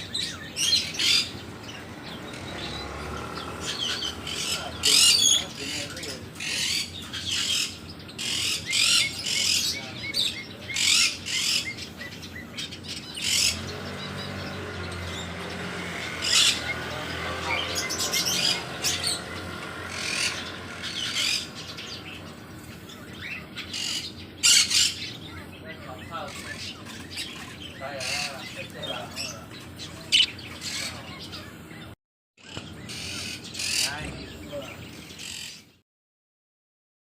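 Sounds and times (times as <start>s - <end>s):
budgerigar chirps and squawks: 0.0s - 1.4s, 3.4s - 15.3s, 16.1s - 31.8s, 32.4s - 34.4s.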